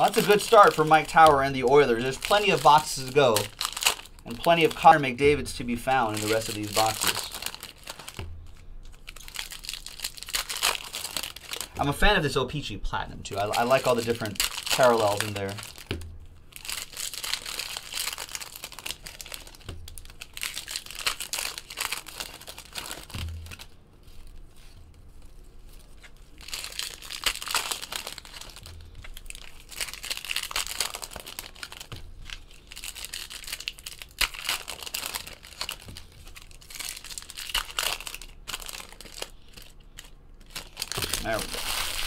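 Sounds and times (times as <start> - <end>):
foil wrappers crinkling and tearing: 0.0 - 42.0.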